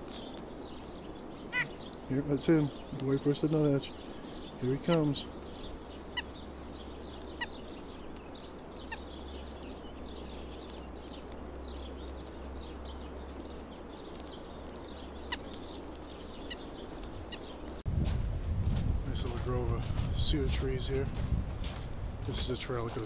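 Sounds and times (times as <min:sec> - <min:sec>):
songbirds chipping: 0:00.0 - 0:17.9, 0:19.1 - 0:23.0.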